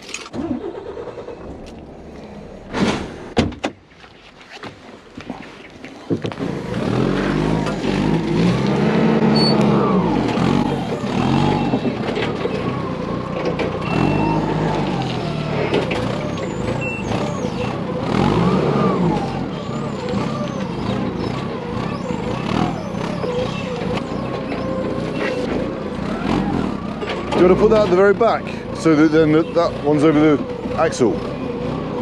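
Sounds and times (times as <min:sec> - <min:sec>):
diesel truck engine pulling away: 0:00.3 - 0:03.4, 0:06.3 - 0:32.0.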